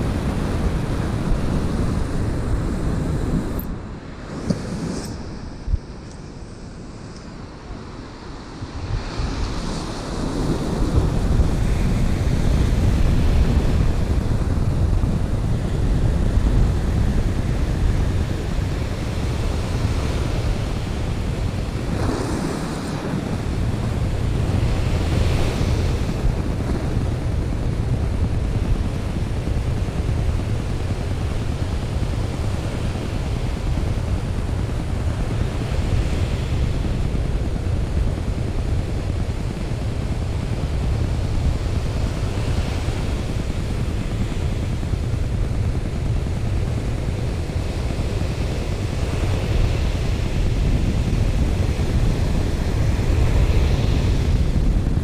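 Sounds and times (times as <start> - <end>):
ocean surf breaking on beach: 0.0 - 55.0
wind buffeting microphone: 0.0 - 55.0.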